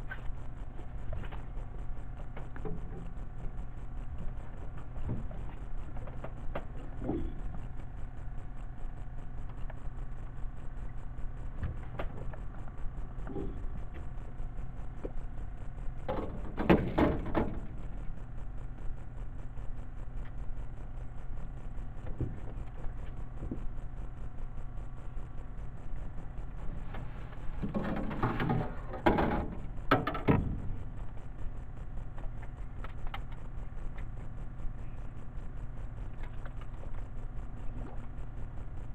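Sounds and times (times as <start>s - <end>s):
boat motor rumble: 0.0s - 38.9s.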